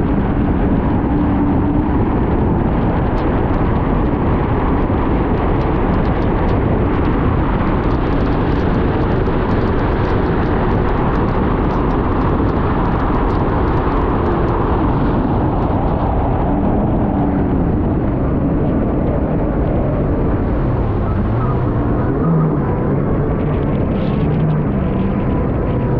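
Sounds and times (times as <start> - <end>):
droning engine tone: 0.0 - 25.9
jet ski engine and water rush: 0.0 - 25.9.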